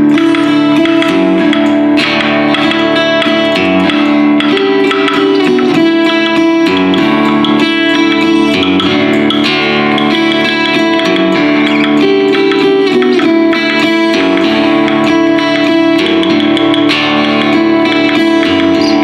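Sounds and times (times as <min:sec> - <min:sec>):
guitar chords: 0:00.0 - 0:19.0.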